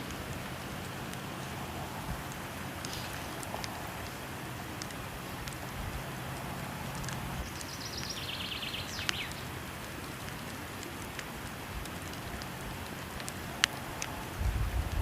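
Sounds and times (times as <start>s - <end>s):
falling water rushing: 0.0s - 15.0s
wood fire crackling and popping: 0.0s - 15.0s.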